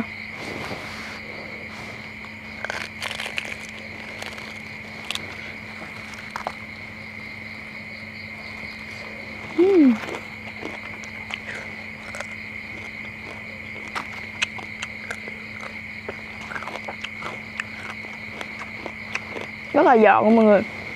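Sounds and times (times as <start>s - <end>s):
crickets chirping: 0.0s - 20.9s
crisp crunches of biting food: 0.4s - 7.3s, 8.5s - 19.7s.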